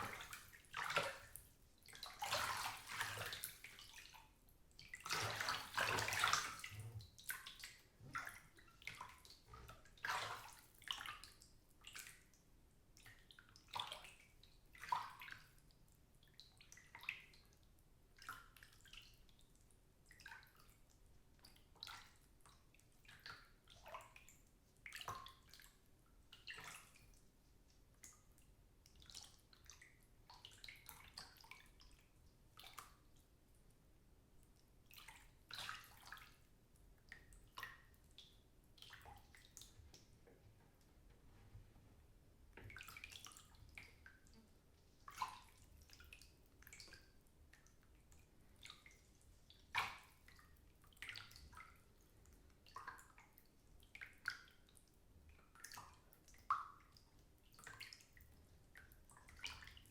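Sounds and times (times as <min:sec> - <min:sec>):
water sloshing in bathtub: 0:00.0 - 0:17.4, 0:20.1 - 0:59.9
water splashes and drips: 0:00.0 - 0:41.6, 0:42.5 - 0:59.9.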